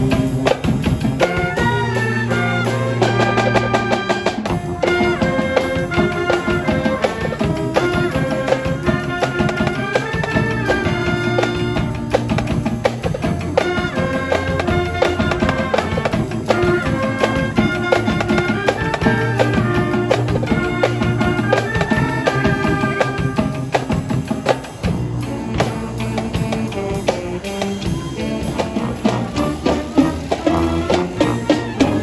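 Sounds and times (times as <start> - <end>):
brass band playing: 0.0 - 32.0
drums: 0.0 - 32.0.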